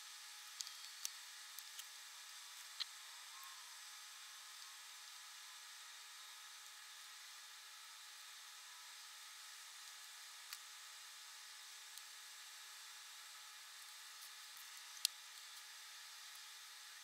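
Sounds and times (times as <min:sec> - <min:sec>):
room tone hiss: 0:00.0 - 0:17.0.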